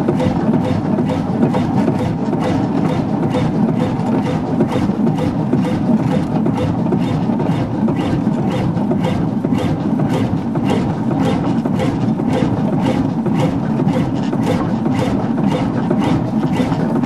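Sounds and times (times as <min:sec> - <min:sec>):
marine engine knocking steadily: 0:00.0 - 0:17.0.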